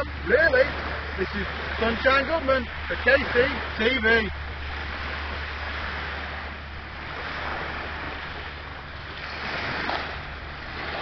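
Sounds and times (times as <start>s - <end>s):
waves washing onto shingle: 0.0s - 11.0s
wind on microphone: 0.0s - 11.0s.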